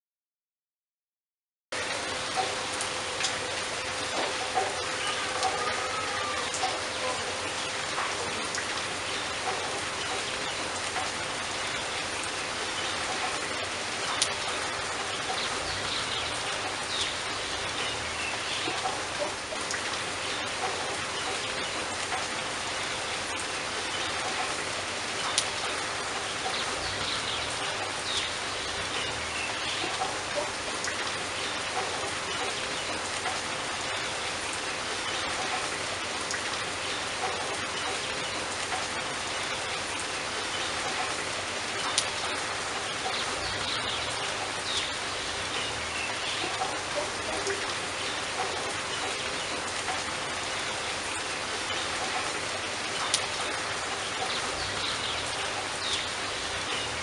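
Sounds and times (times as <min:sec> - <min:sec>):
steady rain falling: 0:01.7 - 0:57.0.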